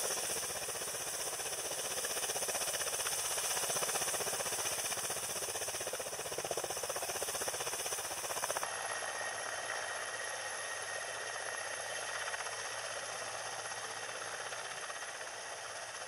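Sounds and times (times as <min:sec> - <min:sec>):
helicopter rotor beat: 0:00.0 - 0:16.0
helicopter turbine whine: 0:00.0 - 0:16.0.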